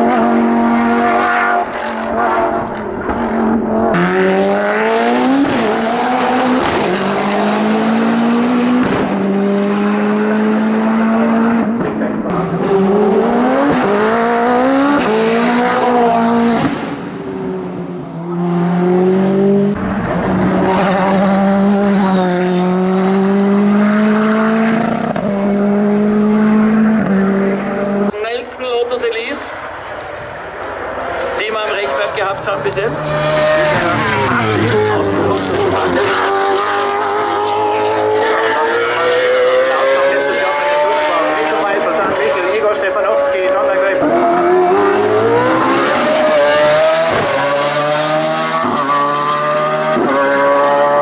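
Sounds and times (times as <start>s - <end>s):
race car engine accelerating: 0.0s - 51.0s.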